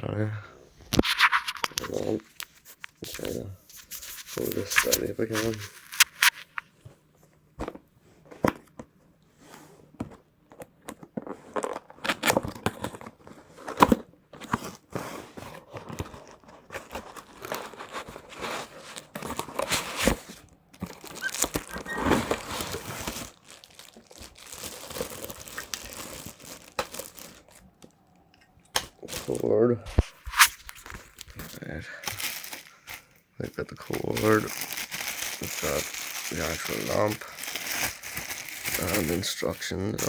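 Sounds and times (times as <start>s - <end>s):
wrapping crinkling and tearing: 0.9s - 6.6s, 11.2s - 40.0s.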